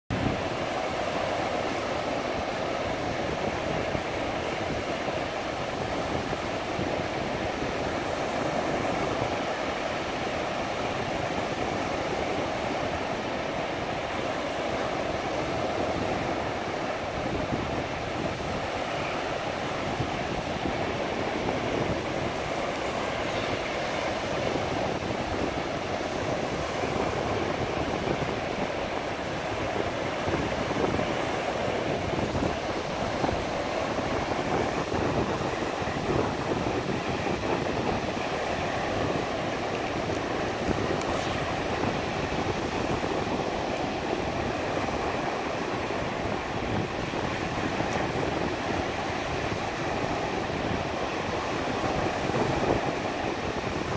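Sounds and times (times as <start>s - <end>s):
sea surf rushing on beach: 0.1s - 53.9s.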